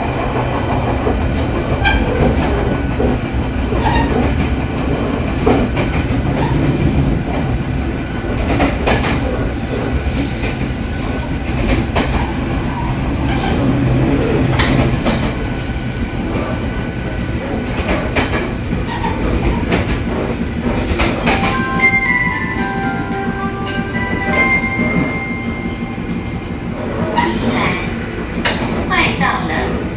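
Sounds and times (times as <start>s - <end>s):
train wheels rumbling: 0.0s - 29.9s
wheels clickety-clack on rails: 0.0s - 29.9s.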